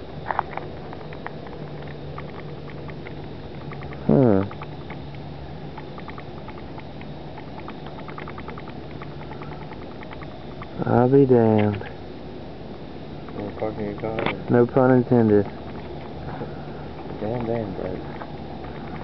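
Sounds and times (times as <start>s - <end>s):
steady low hum: 0.0s - 19.0s
small irregular ticks: 0.1s - 12.0s, 12.7s - 19.0s.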